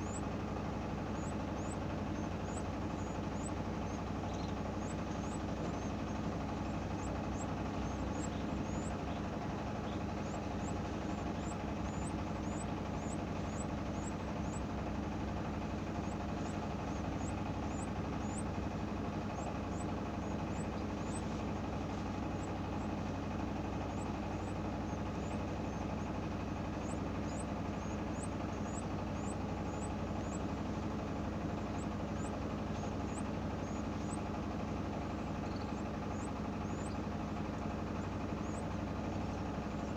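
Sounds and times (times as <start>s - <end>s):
canaries chirping: 0.0s - 39.9s
machine-like hum: 0.0s - 39.9s.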